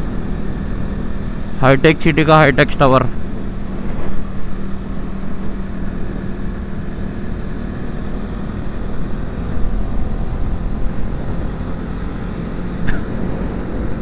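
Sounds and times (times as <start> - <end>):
motorcycle engine cruising: 0.0 - 14.0
wind and road noise: 0.0 - 14.0.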